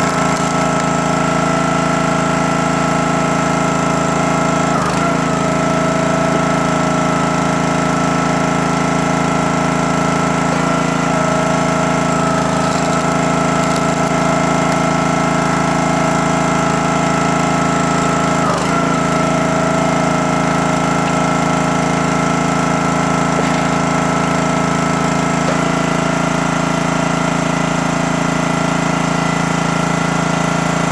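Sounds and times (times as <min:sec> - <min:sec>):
small gas engine running: 0:00.0 - 0:30.9.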